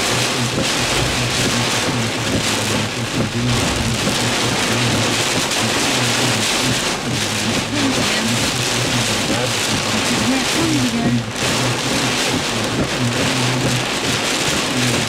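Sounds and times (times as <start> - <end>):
heavy rain hitting a vehicle: 0.0 - 15.0.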